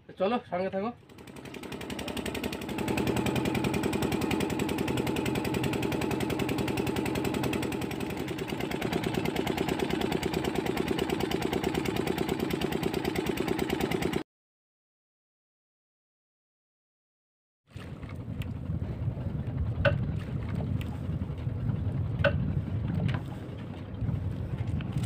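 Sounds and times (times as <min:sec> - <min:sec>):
diesel boat engine running: 0:01.0 - 0:14.2, 0:17.8 - 0:25.0.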